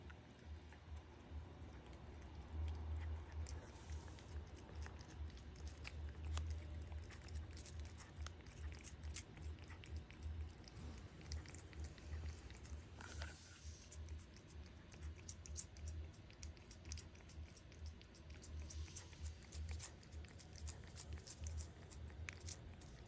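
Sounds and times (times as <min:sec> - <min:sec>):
cat chewing a treat: 0:00.0 - 0:23.0
faint low rumble: 0:00.0 - 0:23.0.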